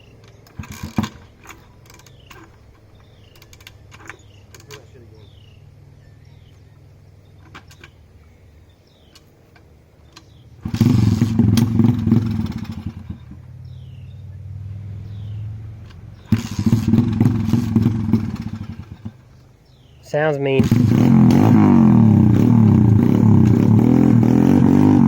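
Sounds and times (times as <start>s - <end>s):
pit bike engine revving: 0.0s - 5.6s, 10.2s - 25.0s.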